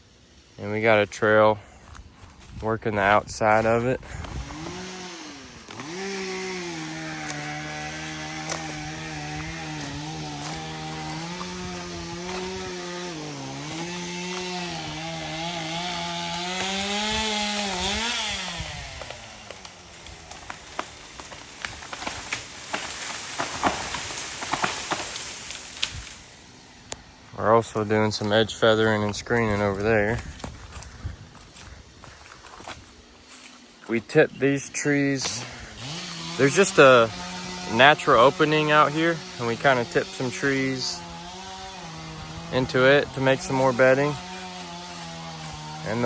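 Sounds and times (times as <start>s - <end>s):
chainsaw cutting wood: 0.1s - 46.0s.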